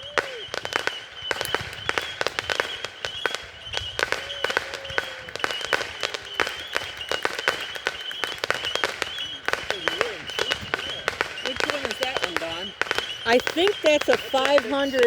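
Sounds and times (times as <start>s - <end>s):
faint firework whistle: 0.0s - 15.0s
fireworks popping and crackling: 0.0s - 15.0s.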